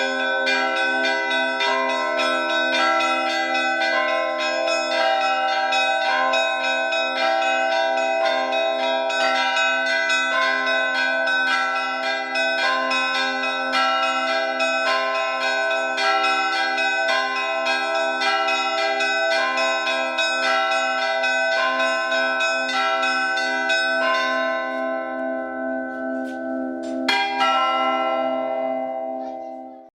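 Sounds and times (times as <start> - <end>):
low bell ringing: 0.0 - 29.9
small church bells striking: 0.0 - 29.9.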